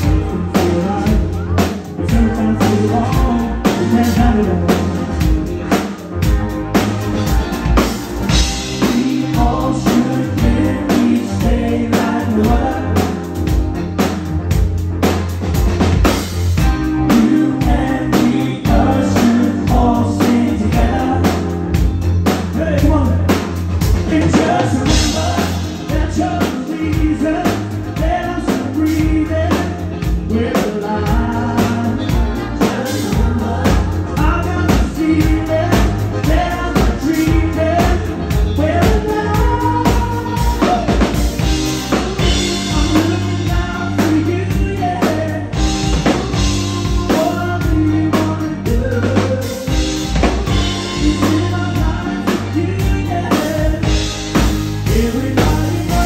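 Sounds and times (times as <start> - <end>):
person singing: 0.0 - 6.4, 7.8 - 13.6, 16.6 - 56.0
bass: 0.0 - 56.0
drum kit beat: 0.0 - 56.0
live band playing: 0.0 - 56.0.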